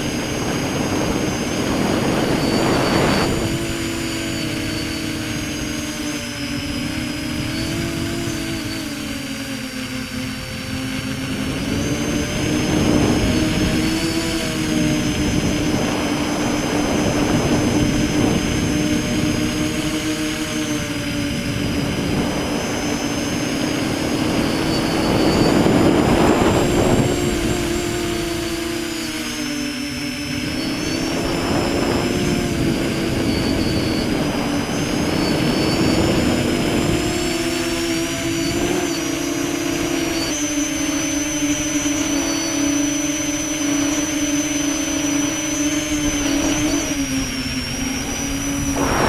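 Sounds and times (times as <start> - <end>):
drone propellers buzzing: 0.0 - 49.0
high-pitched whine: 0.0 - 49.0.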